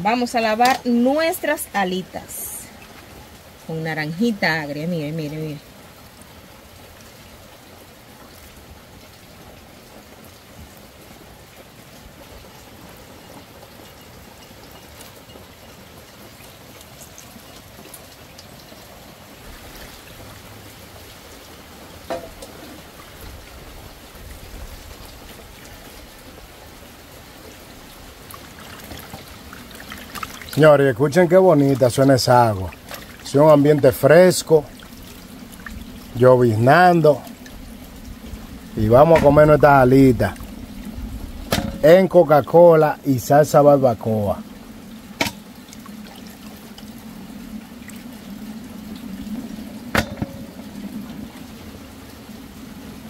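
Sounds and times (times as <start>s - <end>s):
light rain patter: 0.0s - 53.0s.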